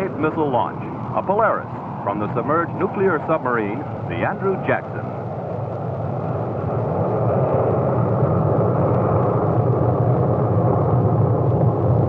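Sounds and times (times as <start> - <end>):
rocket motor rumble: 0.0 - 12.0.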